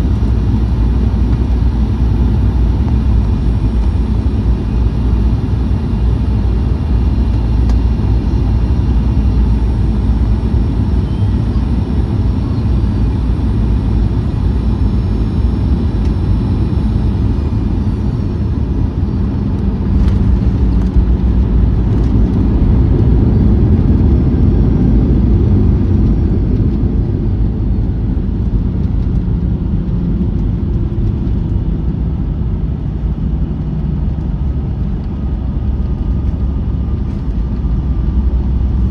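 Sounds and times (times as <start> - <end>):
airplane cabin low rumble: 0.0 - 38.9
high jet engine whine: 0.0 - 38.9.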